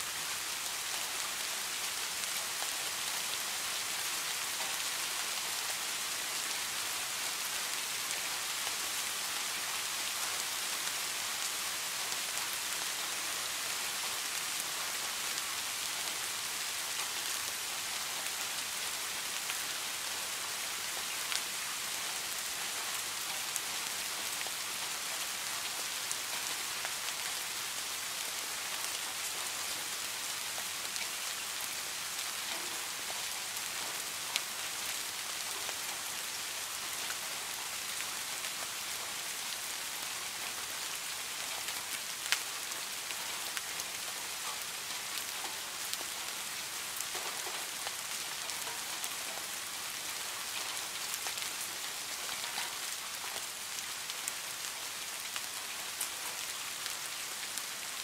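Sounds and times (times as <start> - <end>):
rain falling on pine branches: 0.0 - 58.0.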